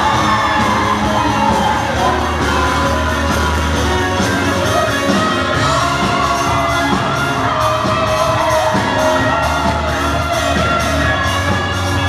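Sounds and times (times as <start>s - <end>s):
crowd shouting and whooping: 0.0s - 12.0s
live rock band: 0.0s - 12.0s.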